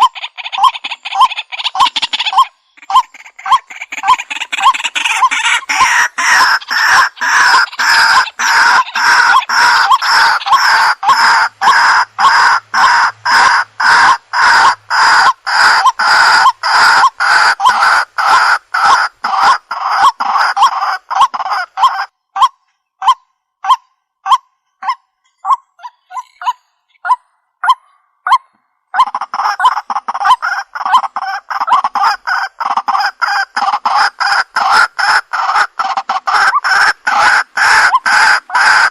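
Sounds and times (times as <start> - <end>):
waterhen calling harsh notes: 0.0 - 38.9.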